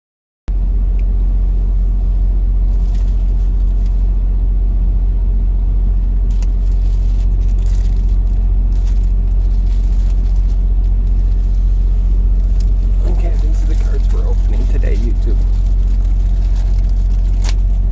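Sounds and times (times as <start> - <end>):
loud low rumble: 0.5 - 17.9.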